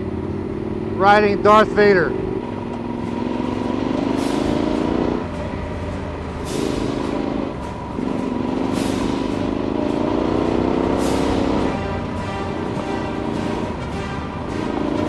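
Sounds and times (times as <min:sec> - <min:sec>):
motorcycle engine accelerating: 0:00.0 - 0:15.0
wind and road rumble: 0:00.0 - 0:15.0.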